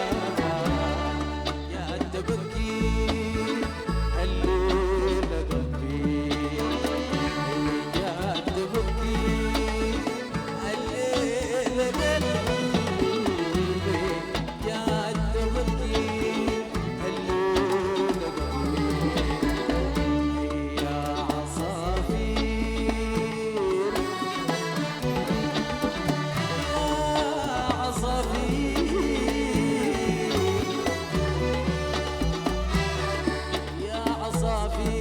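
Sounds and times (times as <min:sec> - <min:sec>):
live band playing popular song: 0:00.0 - 0:35.0.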